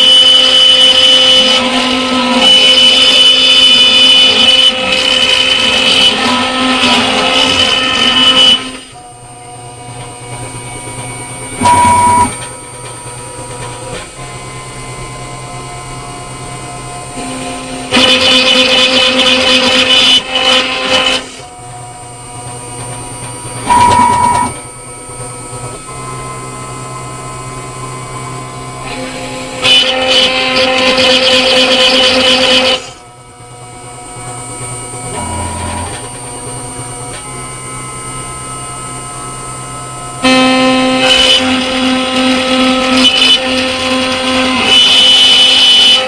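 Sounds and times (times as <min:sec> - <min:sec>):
high-pitched machine cutting: 0:00.0 - 0:46.0
motor running with low hum: 0:00.0 - 0:46.0.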